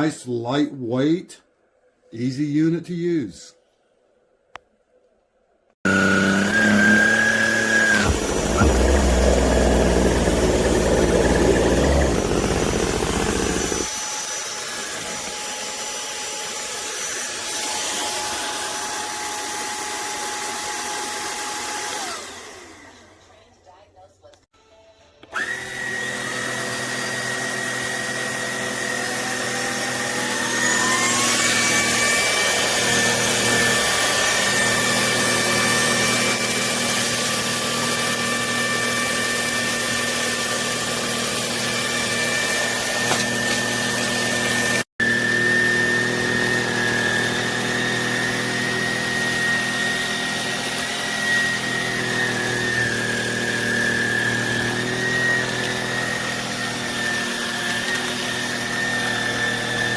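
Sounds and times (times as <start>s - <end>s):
handheld vacuum motor whine: 5.8s - 23.2s, 25.2s - 59.9s.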